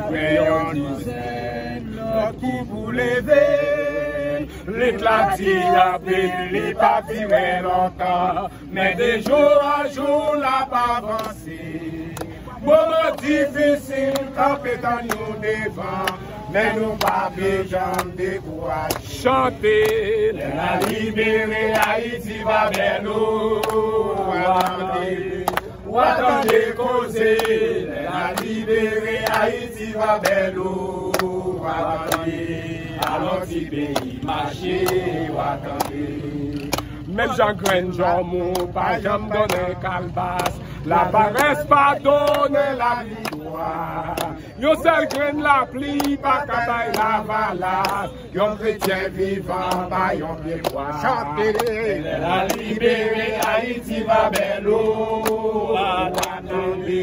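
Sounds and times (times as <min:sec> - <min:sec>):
group chanting in unison: 0:00.0 - 0:57.0.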